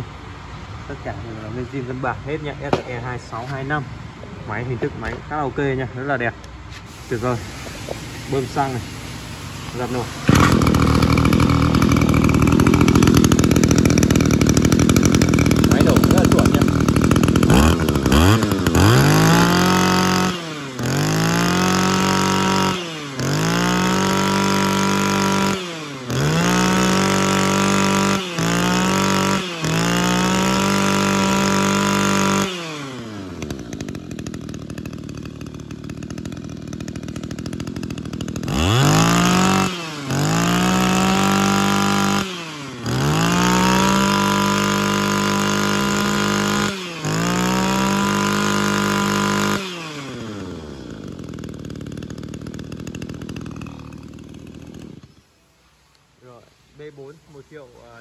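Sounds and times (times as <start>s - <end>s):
brush cutter engine revving: 0.9s - 58.0s.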